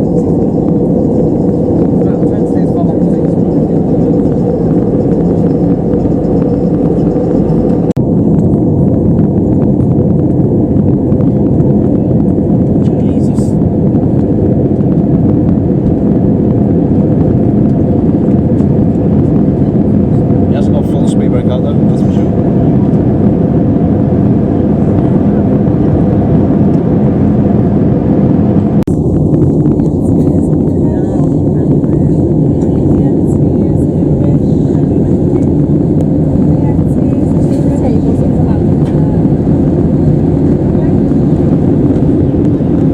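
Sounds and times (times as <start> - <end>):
airflow rushing: 0.0 - 42.9
airplane cabin noise in flight: 0.0 - 42.9
jet engines droning: 0.0 - 42.9.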